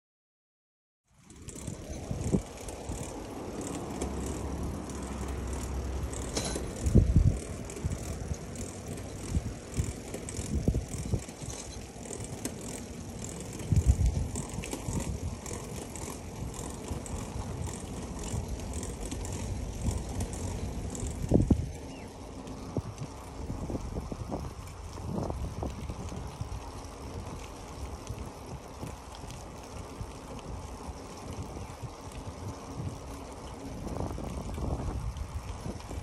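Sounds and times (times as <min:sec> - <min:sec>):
bike rattling and ticking: 0:01.1 - 0:36.0
bike tyres rolling on paving: 0:01.1 - 0:36.0.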